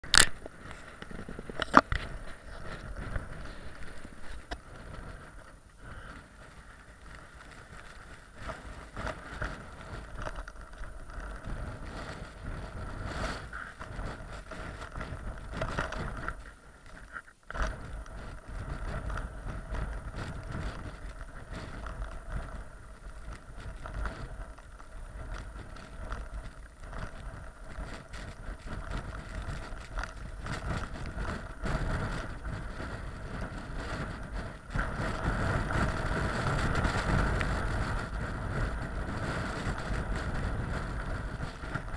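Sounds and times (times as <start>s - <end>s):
blizzard wind buffeting microphone: 0.0s - 41.9s.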